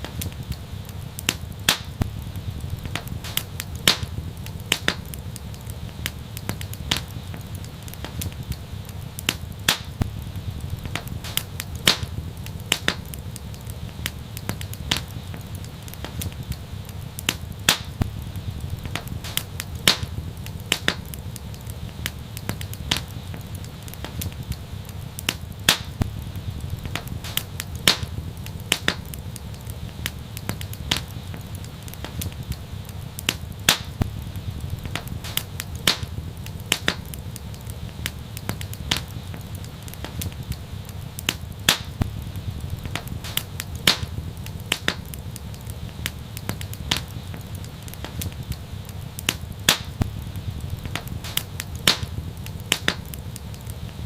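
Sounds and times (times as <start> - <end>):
steady low rumble: 0.0 - 54.0
wood fire crackling: 0.0 - 54.0.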